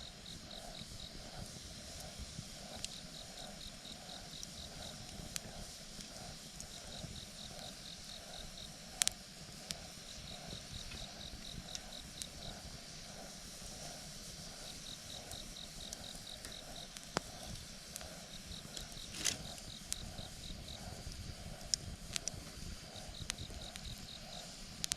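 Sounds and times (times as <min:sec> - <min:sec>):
insect chirping in pulses: 0:00.0 - 0:24.9
campfire crackling and popping: 0:00.2 - 0:24.9.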